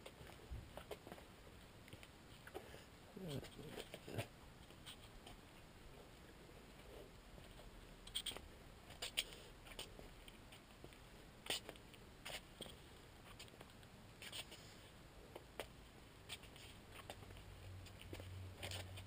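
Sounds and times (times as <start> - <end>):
faint clicks and rustles: 0.0 - 19.0.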